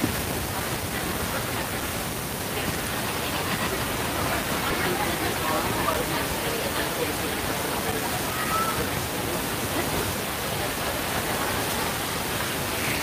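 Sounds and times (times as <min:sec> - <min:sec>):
outdoor background hiss: 0:00.0 - 0:13.0
distant voices: 0:00.6 - 0:13.0.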